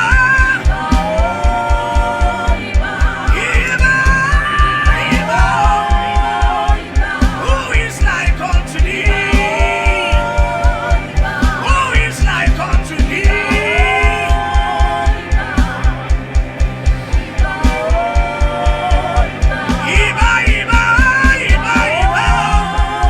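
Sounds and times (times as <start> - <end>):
band playing: 0.0 - 23.0
bass drum pulse: 0.0 - 23.0
person singing gospel: 0.0 - 23.0.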